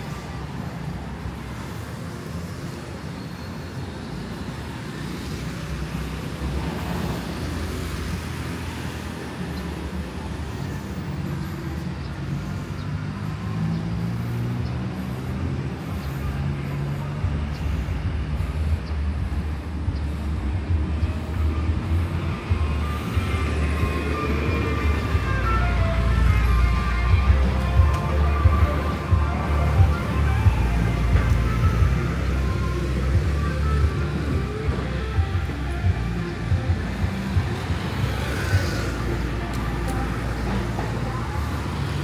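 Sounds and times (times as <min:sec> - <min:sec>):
vehicle engines running: 0:00.0 - 0:42.0.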